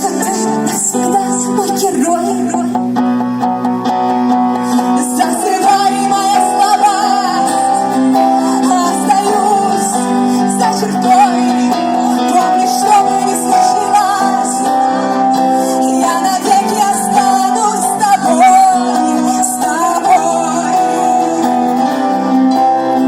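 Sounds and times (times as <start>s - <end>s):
woman singing: 0.0s - 3.0s, 4.8s - 23.0s
live band playing pop song: 0.0s - 23.0s.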